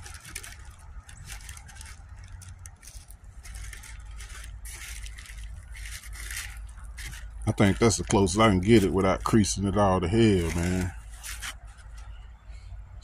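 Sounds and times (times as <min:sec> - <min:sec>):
scraping and crinkling metal plate: 0:00.0 - 0:12.3
low steady rumble: 0:00.0 - 0:13.0.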